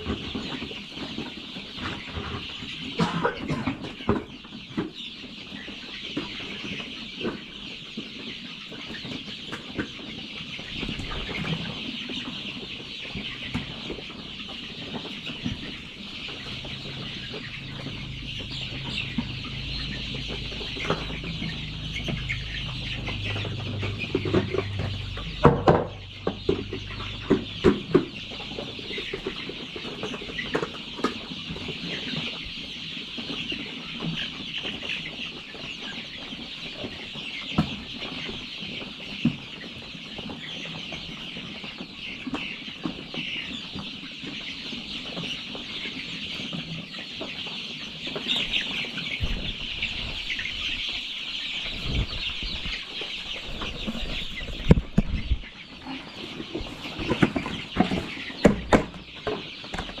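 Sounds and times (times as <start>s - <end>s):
chicks peeping and clucking: 0.0s - 60.0s.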